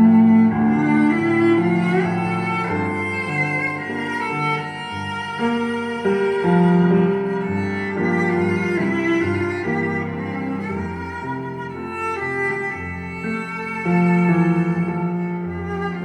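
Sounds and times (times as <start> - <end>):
classical string music with piano: 0.0 - 16.0.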